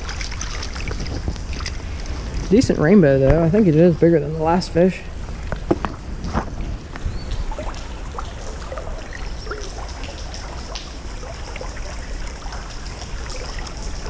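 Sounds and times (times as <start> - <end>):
river water trickling: 0.0 - 14.0.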